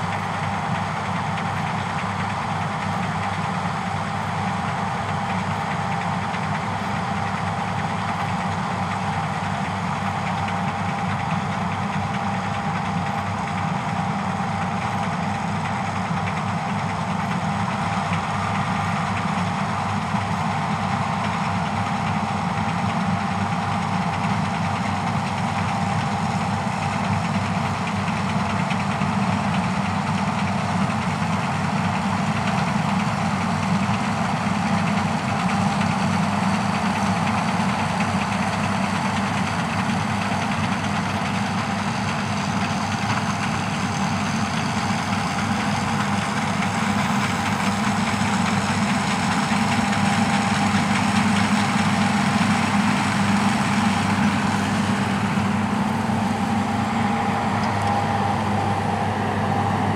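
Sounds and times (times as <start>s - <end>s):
farm machinery engine drone: 0.0s - 59.9s.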